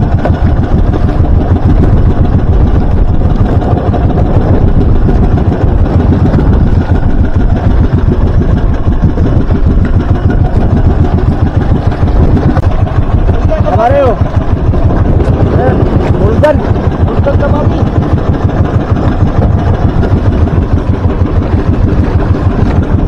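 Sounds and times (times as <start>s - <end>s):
boat engine running: 0.0s - 23.0s
water splashing along hull: 0.0s - 23.0s.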